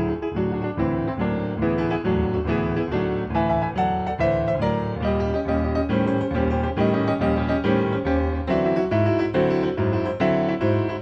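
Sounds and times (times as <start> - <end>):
bouncy piano chords: 0.0 - 11.0.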